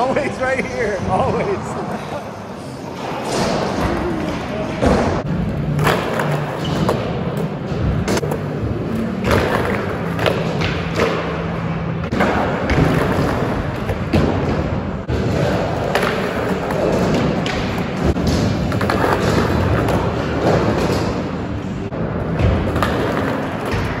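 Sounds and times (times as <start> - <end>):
skateboards thudding and clacking: 2.9 - 24.0.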